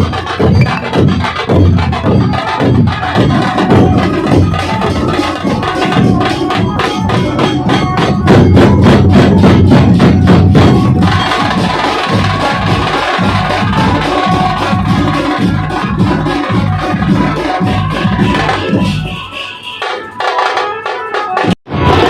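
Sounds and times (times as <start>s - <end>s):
loud dense drumming: 0.0s - 20.5s.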